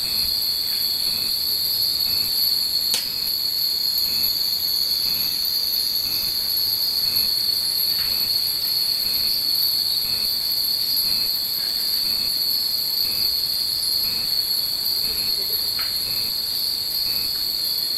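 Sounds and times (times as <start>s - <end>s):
high drone of insects: 0.0s - 17.9s.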